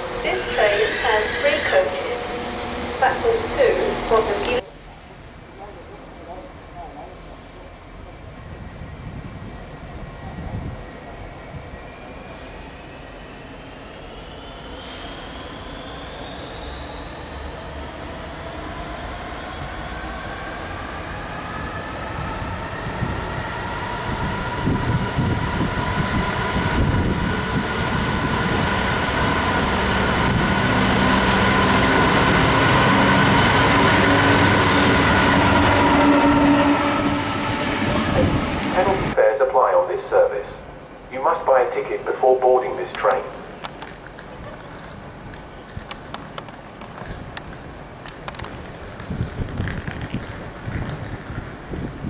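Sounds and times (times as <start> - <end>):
train wheels rumbling on rails: 0.0 - 39.2, 42.9 - 52.0
train motor and gear whine: 0.0 - 52.0.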